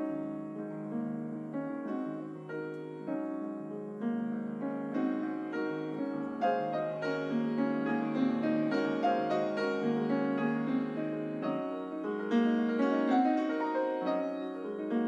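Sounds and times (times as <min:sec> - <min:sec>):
piano single notes: 0:00.0 - 0:15.0.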